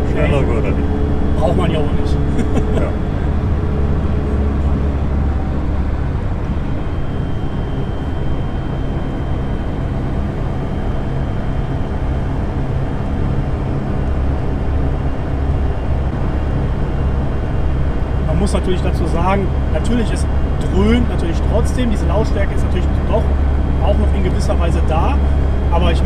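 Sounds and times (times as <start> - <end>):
car engine and drivetrain drone: 0.0 - 26.0
faint high gearbox whine: 0.0 - 26.0.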